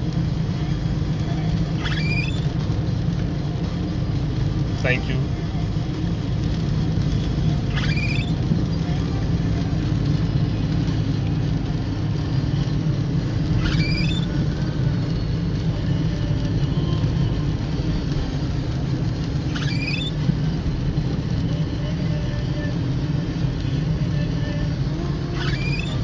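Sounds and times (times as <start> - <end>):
car engine and tyre rumble: 0.0 - 26.0
rain and spray hiss: 0.0 - 26.0.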